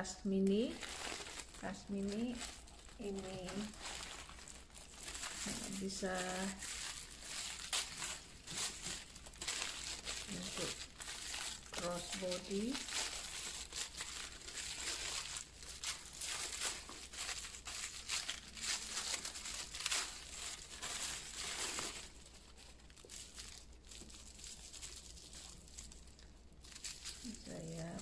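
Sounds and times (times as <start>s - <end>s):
tissue paper rustling and crinkling: 0.4s - 28.0s.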